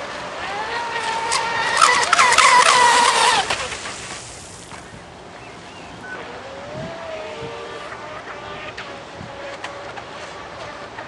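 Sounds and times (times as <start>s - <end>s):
electric motor whining: 0.0s - 4.0s, 5.9s - 11.0s
hull slapping water: 0.0s - 11.0s.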